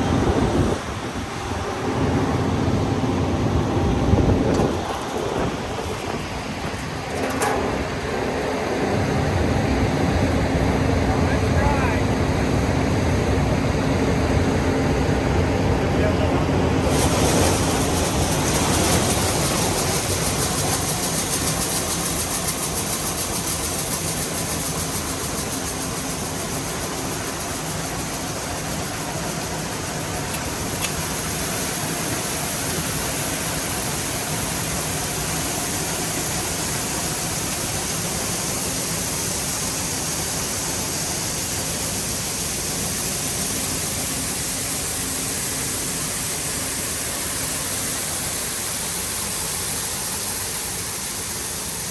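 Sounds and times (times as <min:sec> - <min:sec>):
farm machinery engine running: 0:00.0 - 0:51.9.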